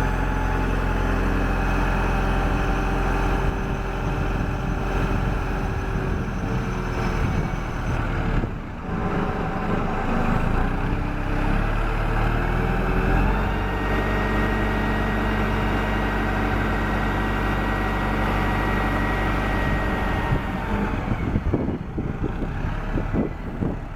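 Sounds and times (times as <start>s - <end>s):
diesel engine revving: 0.0s - 23.9s.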